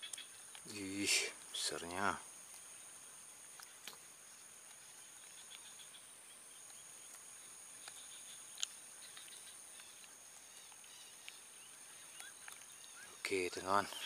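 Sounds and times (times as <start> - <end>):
faint chirps: 0.0 - 14.0.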